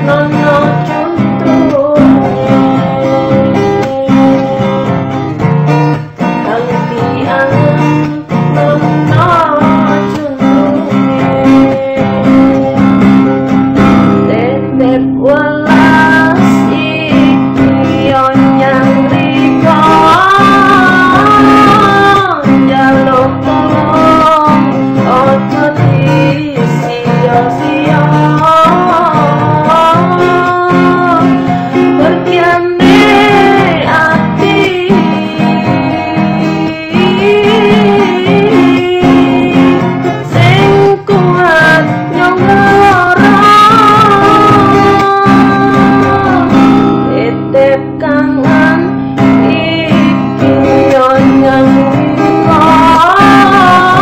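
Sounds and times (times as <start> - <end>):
woman singing slow song: 0.0 - 5.3, 6.2 - 54.0
guitar chords: 0.0 - 54.0.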